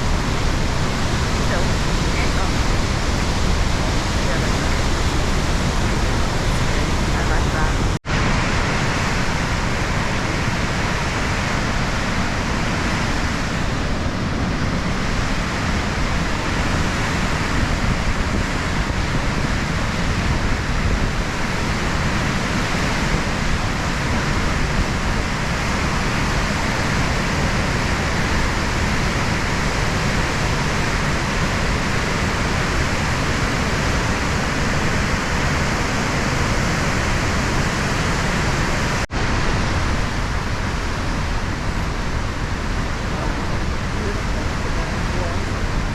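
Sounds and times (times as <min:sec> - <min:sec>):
waterfall roaring: 0:00.0 - 0:45.9.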